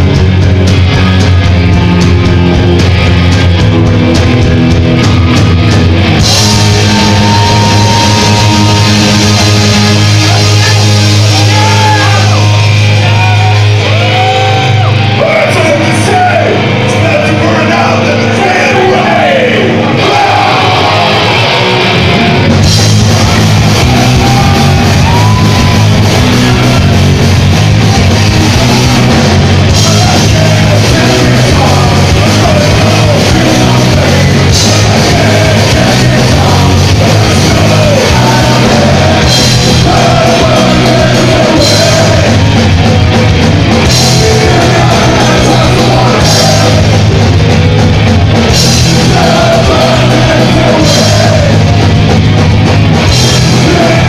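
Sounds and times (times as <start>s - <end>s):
drum kit with cymbals: 0.0s - 14.8s, 22.4s - 54.0s
bass guitar: 0.0s - 54.0s
distorted electric guitars: 0.0s - 54.0s
shouted lead vocal: 5.0s - 22.2s, 23.0s - 47.6s, 48.4s - 51.9s, 53.0s - 54.0s.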